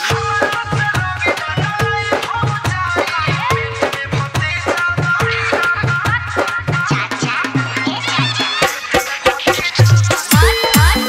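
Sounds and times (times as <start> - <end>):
dance music: 0.0 - 11.0.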